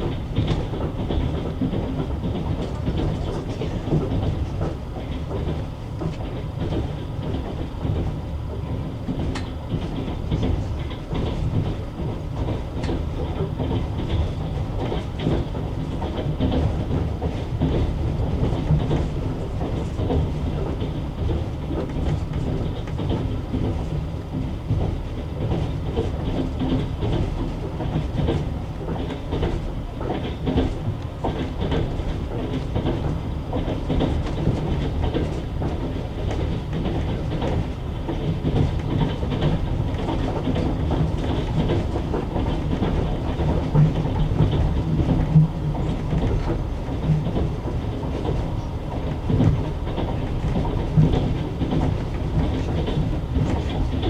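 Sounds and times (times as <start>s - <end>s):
clickety-clack over rail joints: 0.0s - 54.0s
train wheels rumbling on rails: 0.0s - 54.0s.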